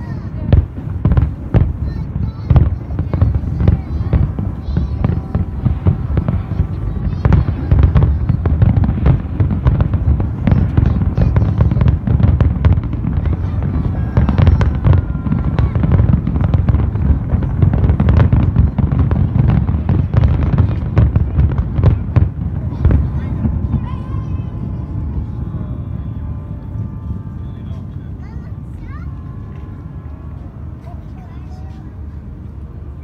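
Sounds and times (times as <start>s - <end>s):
fireworks bangs: 0.0s - 33.0s
low rumble: 0.0s - 33.0s.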